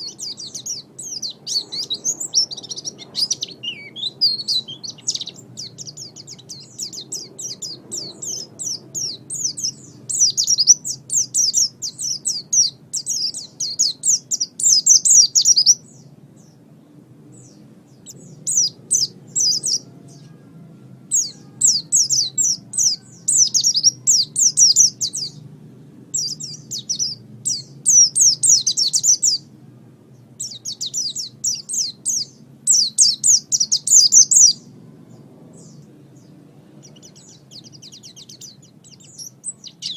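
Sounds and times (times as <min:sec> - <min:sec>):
bird singing high chirping trills: 0:00.0 - 0:39.9.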